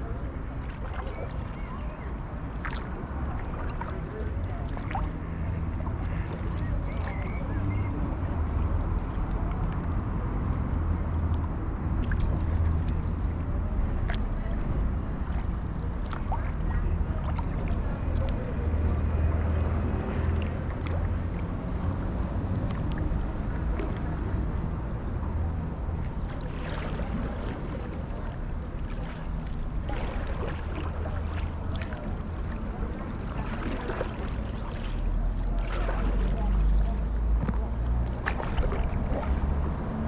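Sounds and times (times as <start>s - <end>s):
paddle splashing and dripping: 0.0s - 7.3s, 11.4s - 14.3s, 15.2s - 40.0s
wind rumble on microphone: 0.0s - 40.0s.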